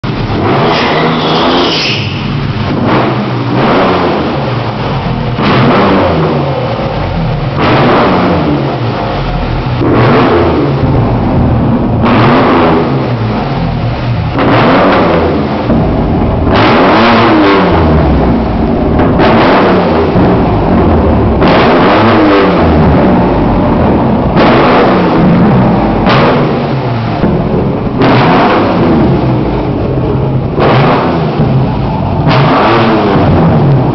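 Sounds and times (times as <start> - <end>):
engine revving and idling: 0.0 - 33.9.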